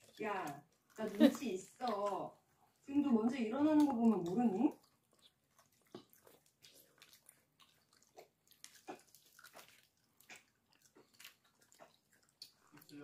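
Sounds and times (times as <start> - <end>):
child chewing with mouth smacks: 0.0 - 13.0.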